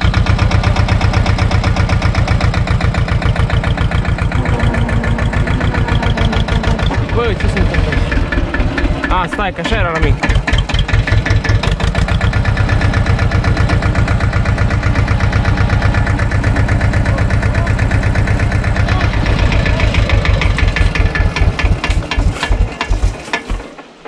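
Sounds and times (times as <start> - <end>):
tractor diesel engine chugging: 0.0 - 24.0.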